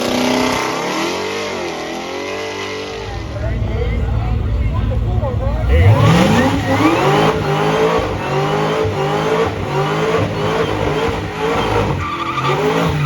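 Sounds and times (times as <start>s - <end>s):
car engine revving at full throttle: 0.0s - 13.0s.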